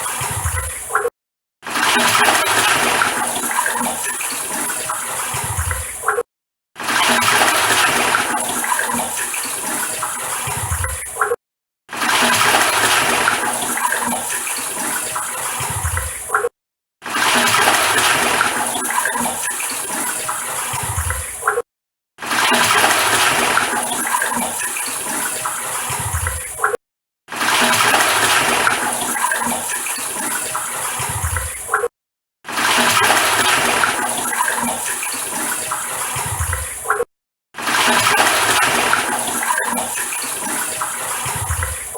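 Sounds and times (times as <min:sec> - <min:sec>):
toilet flushing: 0:01.7 - 0:06.0, 0:06.8 - 0:11.2, 0:11.9 - 0:16.3, 0:17.0 - 0:21.5, 0:22.2 - 0:26.6, 0:27.3 - 0:31.7, 0:32.5 - 0:37.0, 0:37.6 - 0:41.9.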